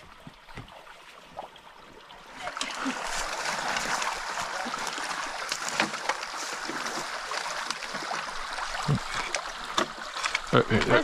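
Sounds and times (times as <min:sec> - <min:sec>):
stream water splashing: 0:00.0 - 0:11.0.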